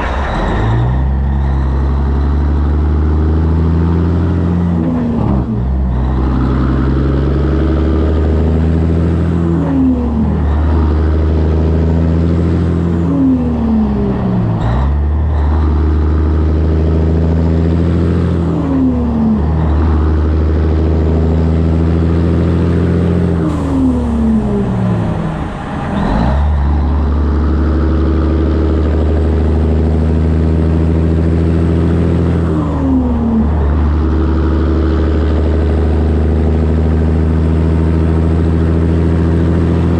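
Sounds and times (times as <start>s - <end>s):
truck diesel engine shifting gears: 0.0s - 39.9s.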